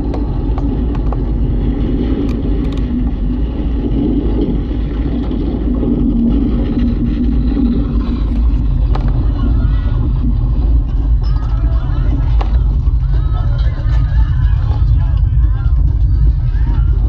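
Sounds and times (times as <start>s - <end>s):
deep earthquake rumble: 0.0s - 17.0s.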